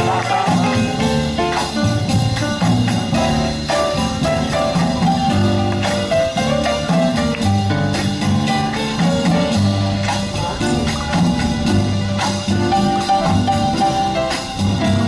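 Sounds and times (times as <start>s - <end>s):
music with drums and melody: 0.0s - 15.0s.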